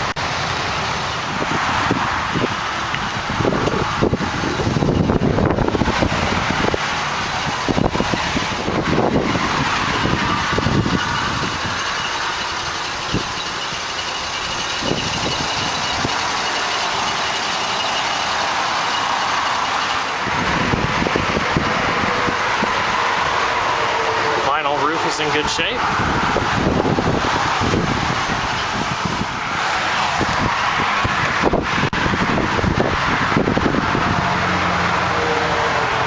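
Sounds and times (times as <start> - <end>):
highway traffic rush: 0.0 - 36.0
wind buffeting microphone: 0.1 - 17.2, 19.6 - 23.8, 25.4 - 35.2.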